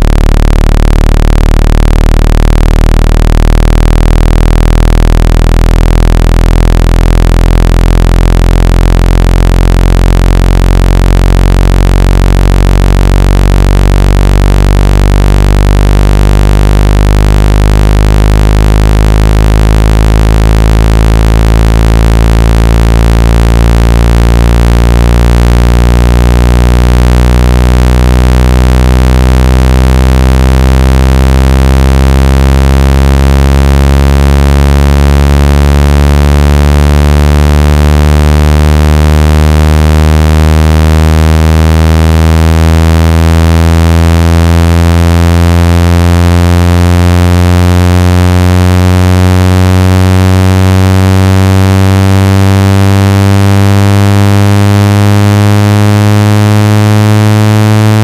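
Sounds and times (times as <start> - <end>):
electronic buzz tone: 0.0 - 58.0.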